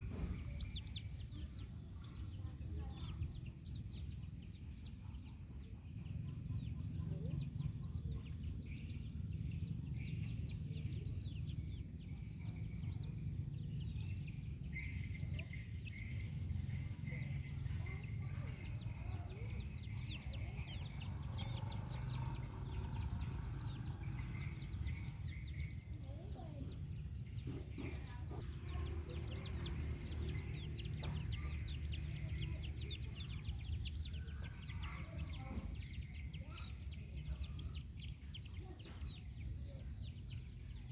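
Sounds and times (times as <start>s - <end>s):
chicks peeping: 0.0s - 40.9s
steady low rumble: 0.0s - 40.9s.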